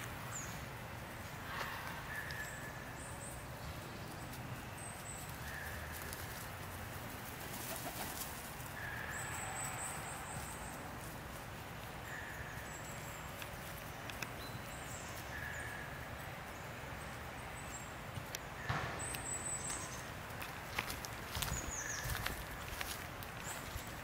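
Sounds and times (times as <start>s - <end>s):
low background noise: 0.0s - 24.0s.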